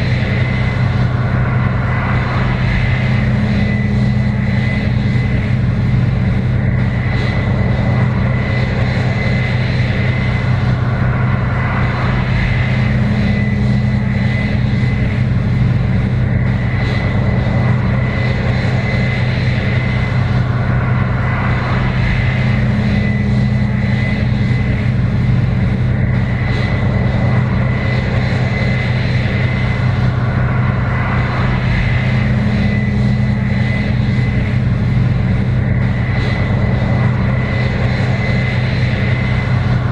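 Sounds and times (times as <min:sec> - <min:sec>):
combine harvester engine drone: 0:00.0 - 0:39.9
high whine: 0:00.0 - 0:39.9.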